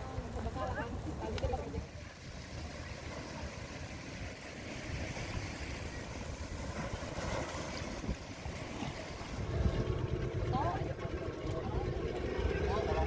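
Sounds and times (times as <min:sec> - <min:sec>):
boat engine running: 0:00.0 - 0:13.0
wind: 0:00.0 - 0:13.0.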